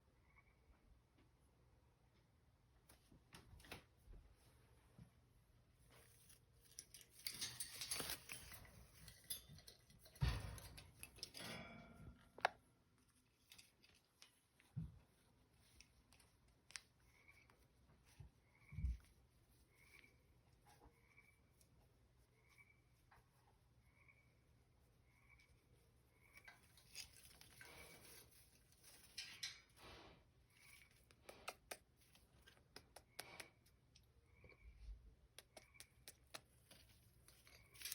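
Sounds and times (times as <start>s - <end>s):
scratching and rustling of bird: 2.8s - 34.2s, 34.8s - 37.9s.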